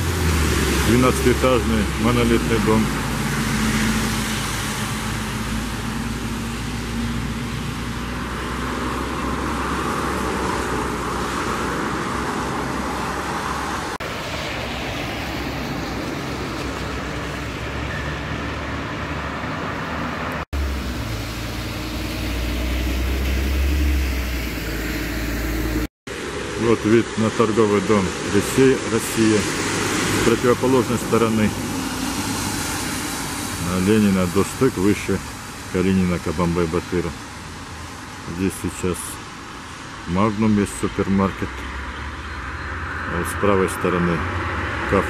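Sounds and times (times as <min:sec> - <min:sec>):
cars passing on a wet road: 0:00.0 - 0:45.0
low traffic rumble: 0:00.0 - 0:45.0.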